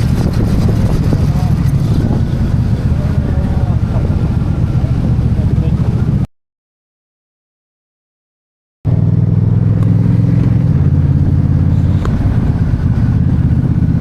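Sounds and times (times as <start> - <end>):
vehicle engine running: 0.0 - 6.3, 8.9 - 14.0.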